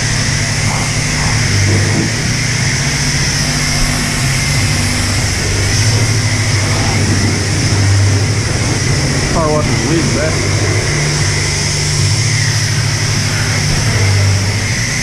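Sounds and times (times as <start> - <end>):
pressure washer spraying: 0.0 - 15.0
pulsing motor hum: 0.0 - 15.0.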